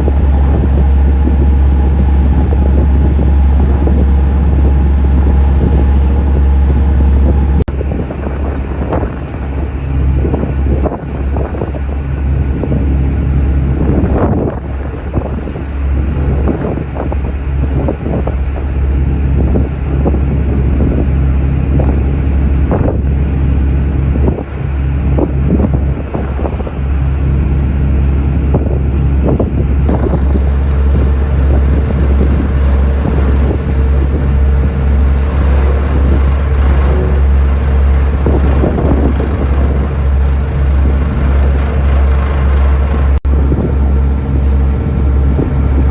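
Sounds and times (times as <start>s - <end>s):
ferry engines droning: 0.0s - 45.9s
wind buffeting the microphone: 0.0s - 45.9s.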